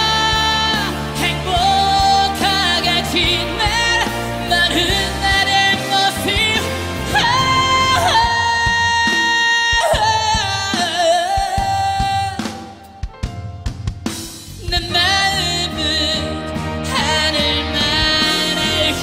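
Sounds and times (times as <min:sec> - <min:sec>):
band accompaniment: 0:00.0 - 0:19.0.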